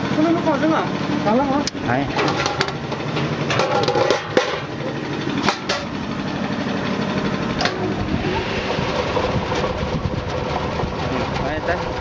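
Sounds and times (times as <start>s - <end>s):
centrifuge motor humming: 0.0s - 12.0s.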